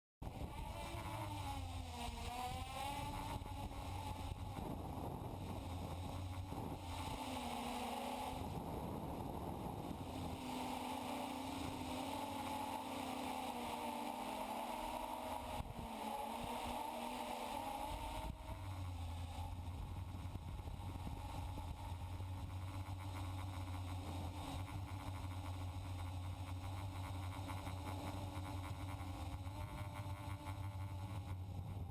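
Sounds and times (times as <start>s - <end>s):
drone motors whining: 0.2s - 31.9s
low steady hum: 0.2s - 31.9s.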